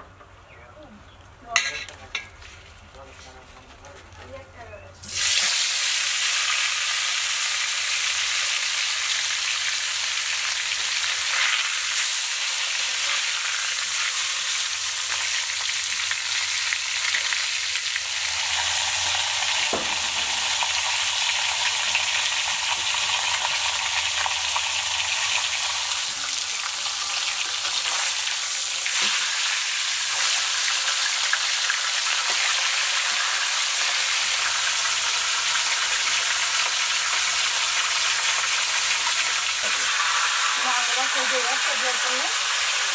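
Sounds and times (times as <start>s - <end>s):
fish sizzling in hot oil: 5.0s - 42.9s.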